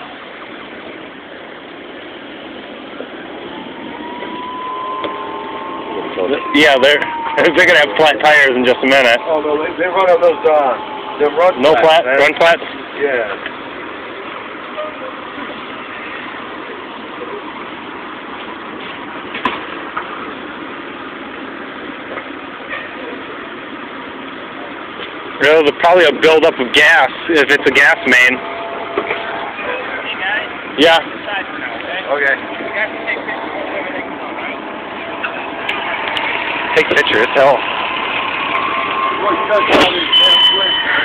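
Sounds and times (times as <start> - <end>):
fire truck engines running: 0.0 - 41.0
steady whine: 0.0 - 41.0.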